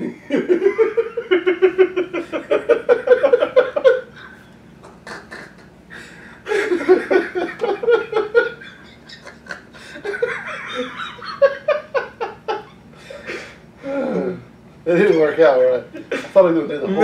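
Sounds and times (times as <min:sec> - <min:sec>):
men laughing hard: 0:00.0 - 0:13.6, 0:15.9 - 0:17.0.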